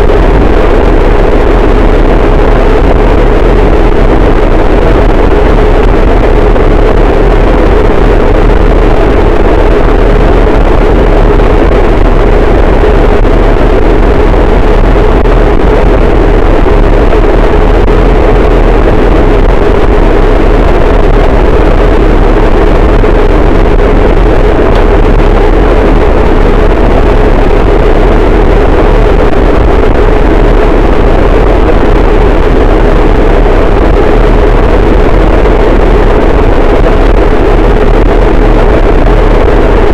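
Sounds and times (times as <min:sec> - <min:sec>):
wall of distorted noise: 0:00.0 - 0:39.9.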